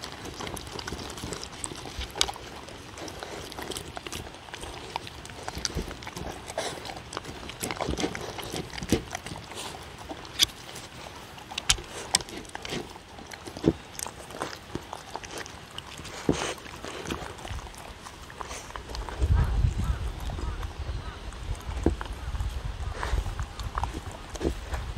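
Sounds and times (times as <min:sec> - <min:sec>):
dogs crunching food: 0:00.0 - 0:24.9.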